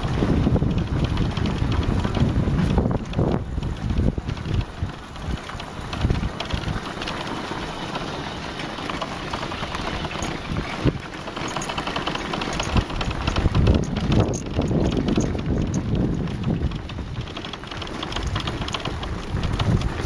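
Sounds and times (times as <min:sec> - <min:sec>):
knocks and rattles from bumps: 0:00.0 - 0:20.0
motorbike engine running low: 0:00.0 - 0:20.0
tyres rumbling on cobblestones: 0:00.0 - 0:20.0.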